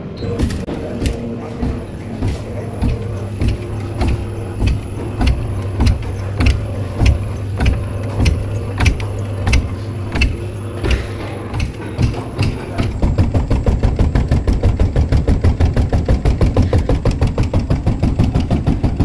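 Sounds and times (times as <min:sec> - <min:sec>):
motor hum: 0:00.0 - 0:19.0
hammer knocking cricket bat: 0:00.4 - 0:19.0.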